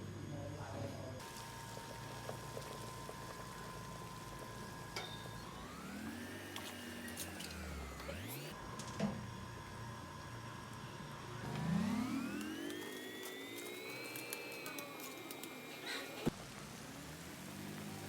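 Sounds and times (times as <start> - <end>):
motor whining: 1.2 - 18.0.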